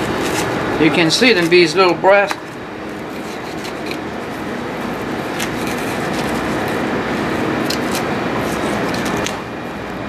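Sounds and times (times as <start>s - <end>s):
kitchen ventilation rushing: 0.0s - 10.0s.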